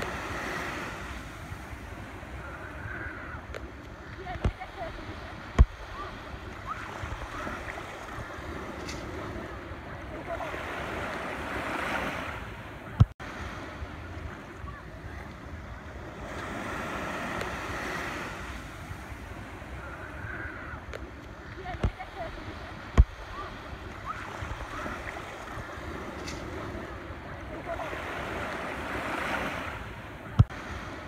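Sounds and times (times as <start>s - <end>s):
surf washing on beach: 0.0s - 31.0s
wind buffeting microphone: 0.0s - 31.0s.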